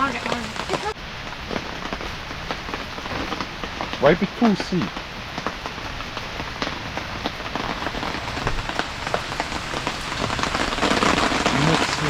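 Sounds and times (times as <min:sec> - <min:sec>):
heavy rain falling: 0:00.0 - 0:12.0
raindrops ticking on a surface: 0:00.0 - 0:12.0.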